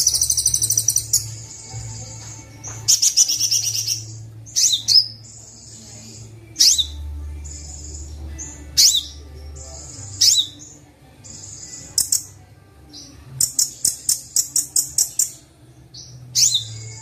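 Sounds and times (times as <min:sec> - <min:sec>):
sunbird song: 0:00.0 - 0:17.0.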